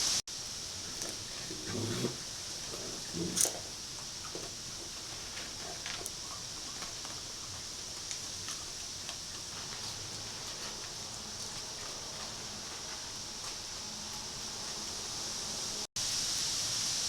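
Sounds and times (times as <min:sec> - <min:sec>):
steady high hiss: 0:00.0 - 0:17.0
animals crunching dry food: 0:00.5 - 0:14.8.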